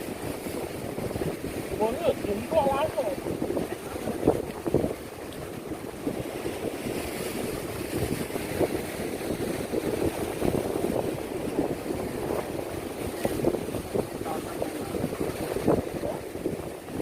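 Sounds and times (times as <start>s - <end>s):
sea surf washing: 0.0s - 17.0s
wind buffeting the microphone: 0.0s - 17.0s.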